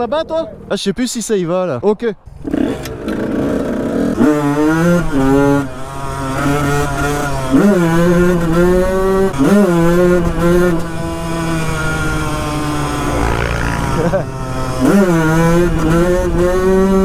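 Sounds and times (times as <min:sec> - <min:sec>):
two-stroke engine revving: 0:02.3 - 0:17.0.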